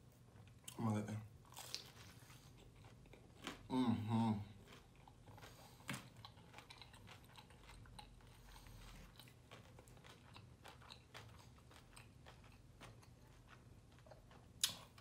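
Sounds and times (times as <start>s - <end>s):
chewing crunchy food: 1.4s - 15.0s.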